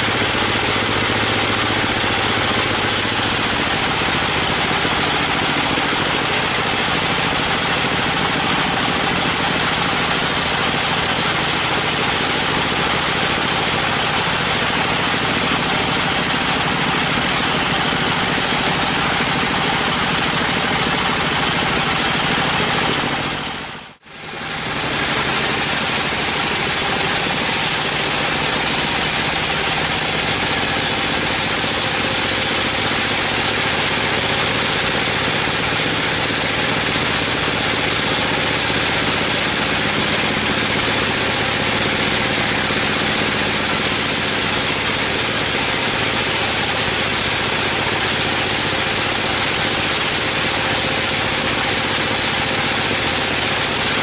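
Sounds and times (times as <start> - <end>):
sawmill machinery engine drone: 0.0 - 54.0.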